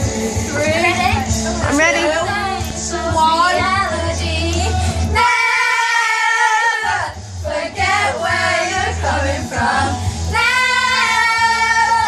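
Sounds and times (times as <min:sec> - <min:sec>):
girls singing together: 0:00.0 - 0:12.0
music playing: 0:00.0 - 0:12.0.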